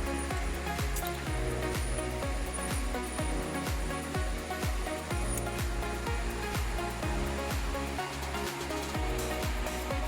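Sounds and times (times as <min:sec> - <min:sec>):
deep kick drum beat: 0:00.0 - 0:08.3, 0:09.0 - 0:10.0
electronic dance-pop music: 0:00.0 - 0:10.0.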